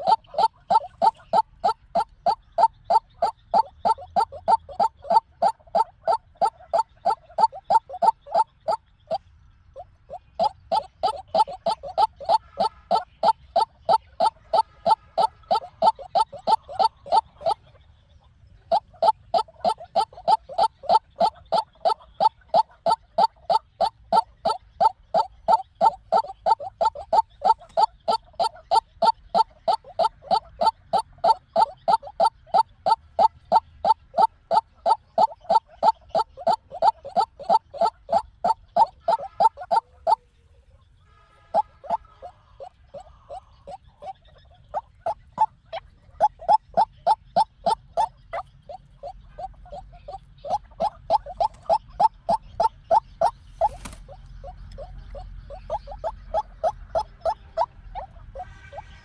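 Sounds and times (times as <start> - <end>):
bird calling harsh notes: 0.0 - 9.2, 18.8 - 40.2, 41.1 - 59.0.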